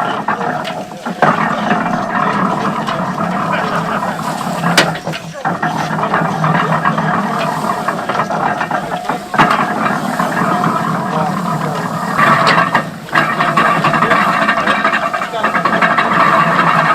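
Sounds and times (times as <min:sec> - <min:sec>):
steam engine running: 0:00.0 - 0:16.9.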